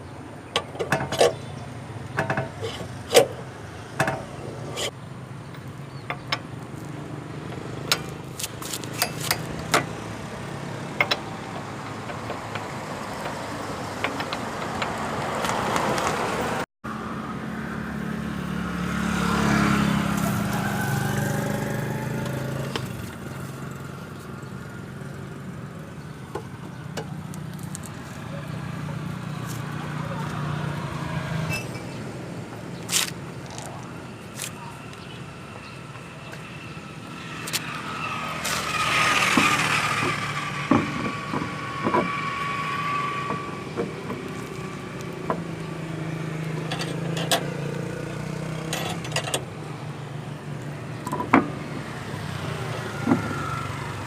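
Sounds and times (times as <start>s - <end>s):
passing vehicle noise: 1.0s - 54.0s.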